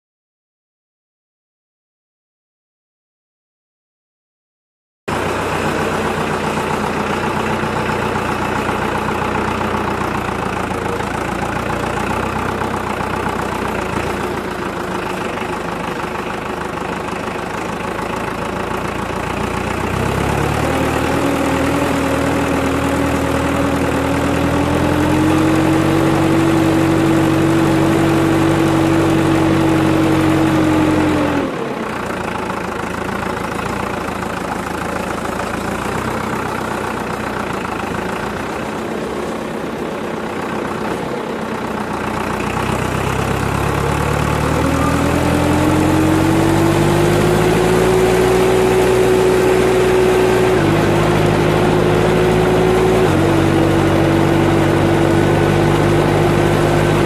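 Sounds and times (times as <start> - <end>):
tractor diesel engine running: 5.1 - 57.0.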